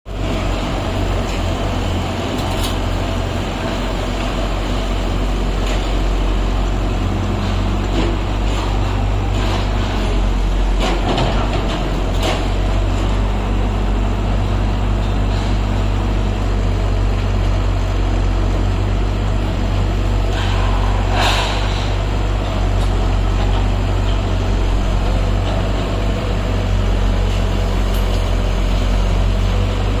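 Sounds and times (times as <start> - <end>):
excavator engine rumbling: 0.1 - 30.0.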